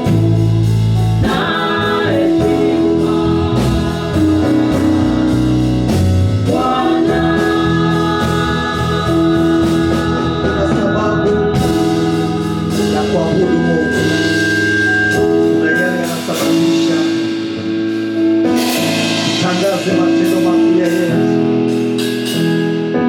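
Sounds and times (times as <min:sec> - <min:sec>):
gospel worship music with singing: 0:00.0 - 0:23.0.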